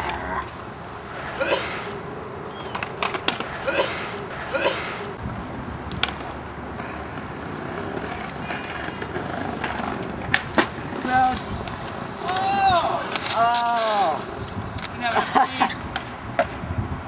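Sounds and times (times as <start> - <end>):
skate wheels rolling on concrete: 0.0 - 17.0.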